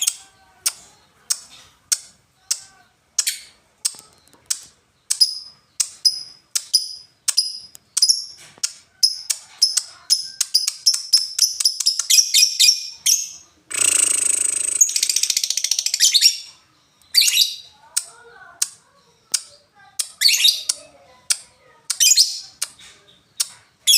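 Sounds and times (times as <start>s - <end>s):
bird chattering song: 0.0s - 23.9s.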